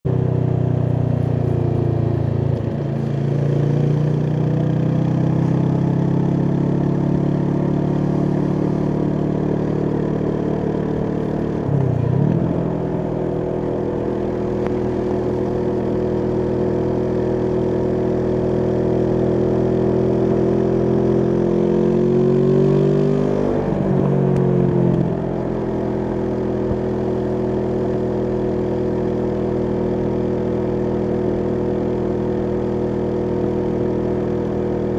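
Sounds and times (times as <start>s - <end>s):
motorcycle engine under way: 0.1s - 34.9s.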